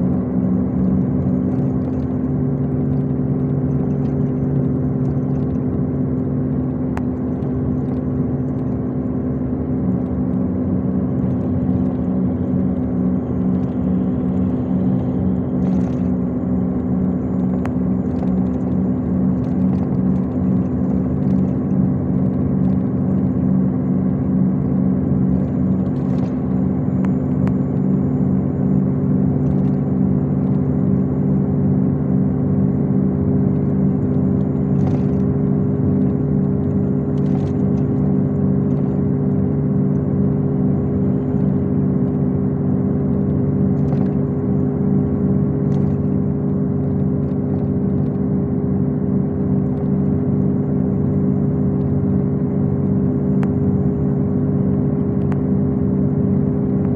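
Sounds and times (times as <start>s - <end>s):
diesel engine drone: 0.0s - 56.9s.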